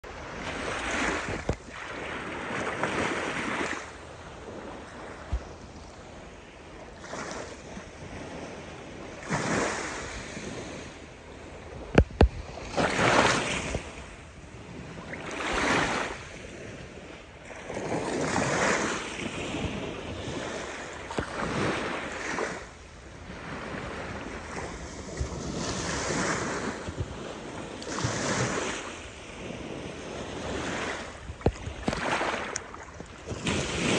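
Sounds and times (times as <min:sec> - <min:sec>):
small waves washing onto beach: 0:00.0 - 0:33.9
wind buffeting microphone: 0:00.0 - 0:33.9.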